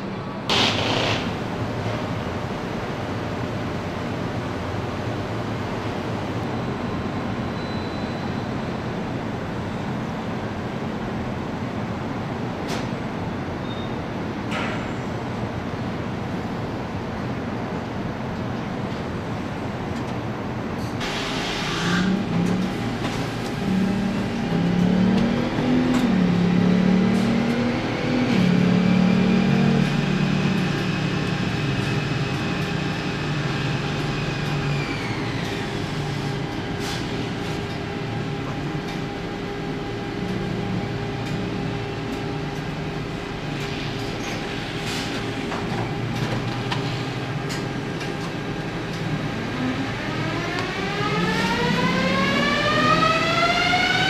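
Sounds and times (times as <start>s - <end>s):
machinery hum: 0.0s - 12.5s, 15.2s - 54.0s.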